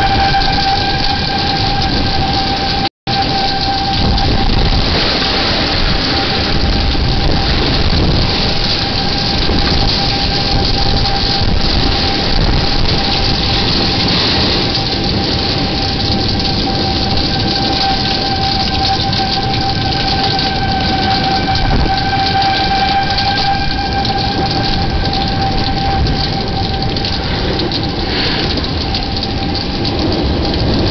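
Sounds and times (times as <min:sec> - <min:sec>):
warning siren steady tone: 0:00.0 - 0:30.9
wind and heavy rain: 0:00.0 - 0:30.9.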